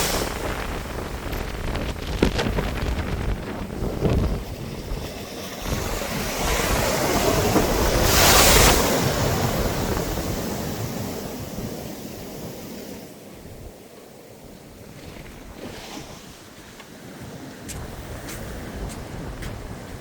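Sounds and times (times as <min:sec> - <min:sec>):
sea waves breaking on a beach: 0:00.0 - 0:20.0
wind buffeting the microphone: 0:00.0 - 0:20.0.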